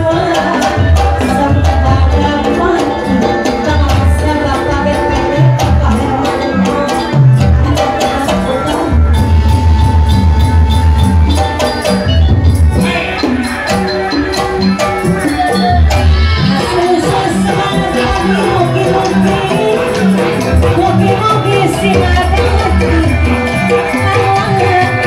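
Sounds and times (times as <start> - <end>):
gamelan ensemble music: 0.0 - 25.0.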